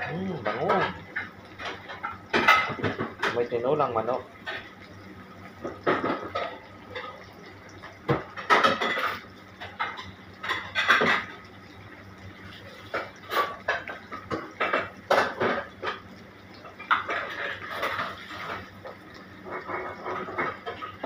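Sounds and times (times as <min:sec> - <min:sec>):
clatter of pots and utensils: 0:00.0 - 0:11.8, 0:12.4 - 0:21.0
aromatics sizzling in oil: 0:00.0 - 0:21.0.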